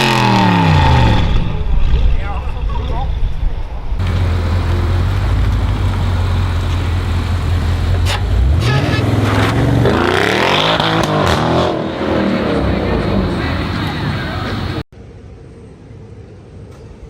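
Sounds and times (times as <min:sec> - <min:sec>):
car engine revving: 0:00.0 - 0:02.8, 0:04.0 - 0:14.8.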